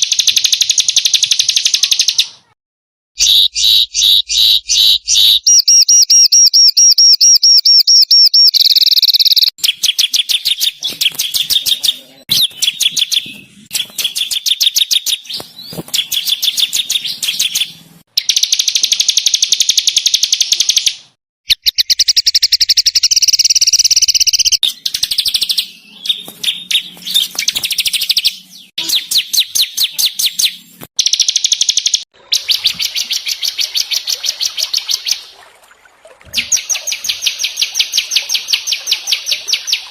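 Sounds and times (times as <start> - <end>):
songbirds singing rapid trills: 3.2 - 35.2.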